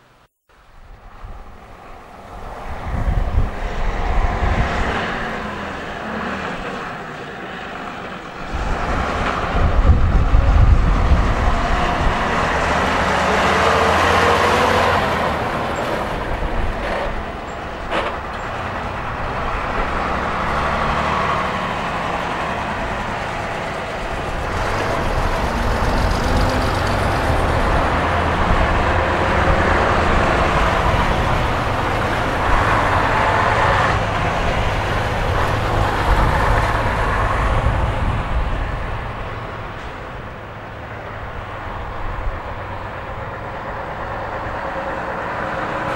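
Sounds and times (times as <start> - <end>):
bus engine driving away: 0.0 - 45.9.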